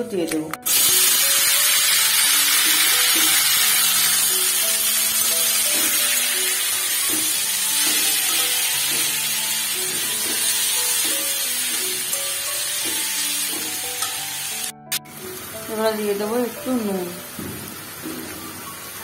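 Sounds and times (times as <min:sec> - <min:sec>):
soft background music: 0:00.0 - 0:19.0
tomatoes sizzling in oil: 0:00.6 - 0:19.0.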